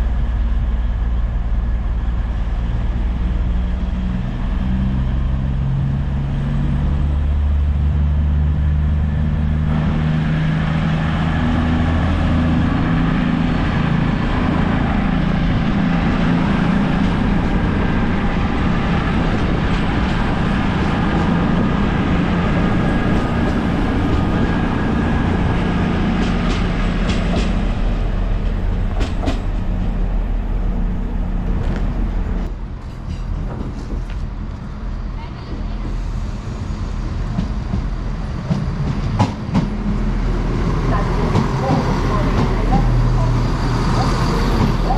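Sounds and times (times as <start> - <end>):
diesel train engine drone: 0.0 - 44.9.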